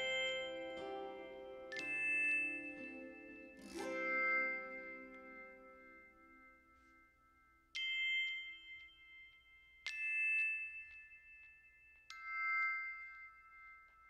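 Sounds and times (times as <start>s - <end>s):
chime-like bell notes: 0.0s - 14.0s.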